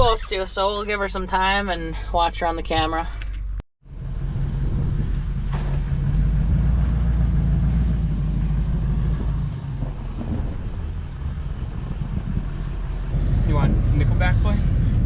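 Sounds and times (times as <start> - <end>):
road or wind noise: 0.0 - 15.0
vehicle engine humming: 0.0 - 15.0.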